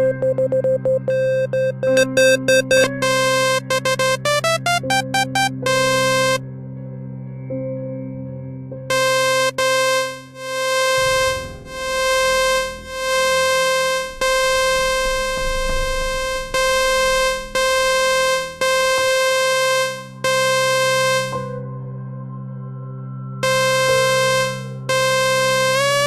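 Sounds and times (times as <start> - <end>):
buzzy synthesizer note: 0.0 - 6.4, 8.9 - 21.6, 23.4 - 26.0.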